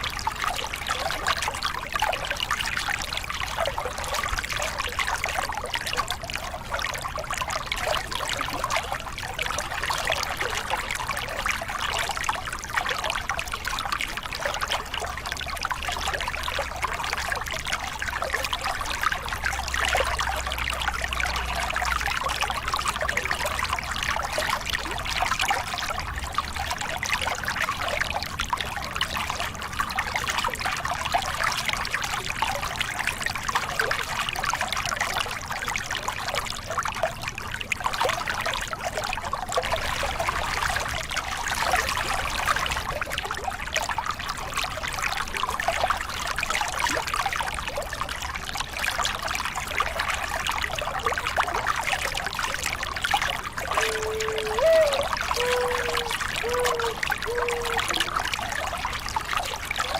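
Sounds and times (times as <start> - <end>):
water splashing over rocks: 0.0 - 59.9.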